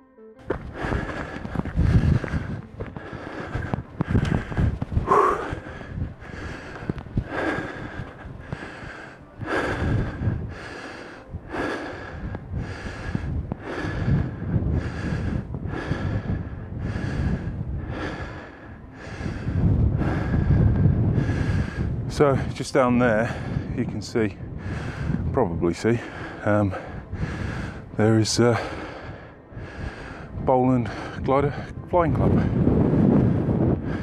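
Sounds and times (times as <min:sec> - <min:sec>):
man breathing heavily: 0:00.4 - 0:34.0.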